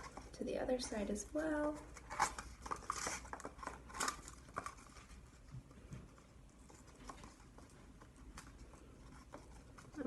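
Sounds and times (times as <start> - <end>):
cardboard tubes rustling and clicking: 0.0 - 10.0.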